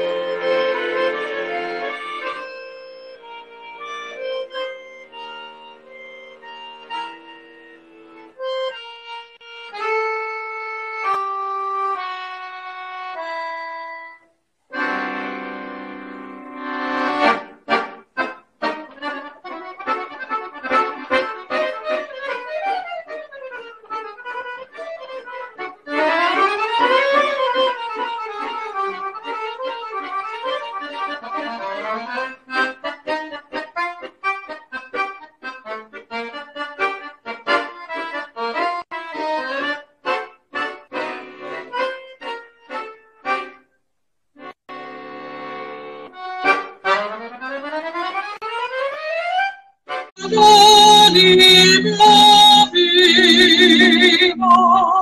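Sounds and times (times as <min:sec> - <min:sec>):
accordion playing: 0:00.0 - 0:43.7, 0:44.4 - 0:55.0.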